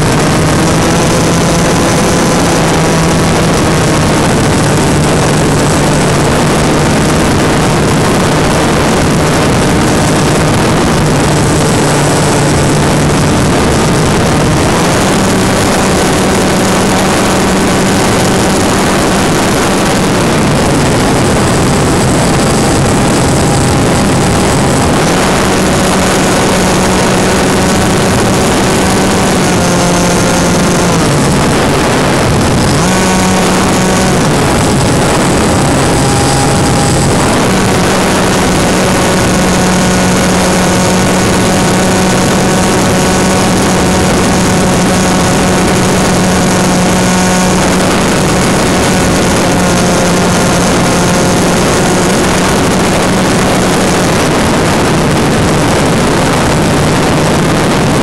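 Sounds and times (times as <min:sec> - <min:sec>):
electric motor buzzing whine: 0:00.0 - 0:58.0
rush of air: 0:00.0 - 0:58.0.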